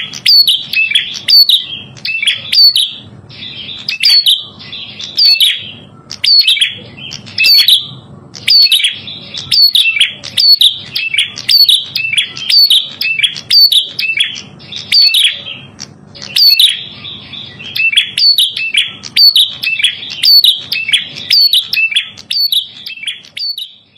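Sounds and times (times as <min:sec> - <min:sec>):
bird singing high sharp chirps: 0:00.0 - 0:23.9.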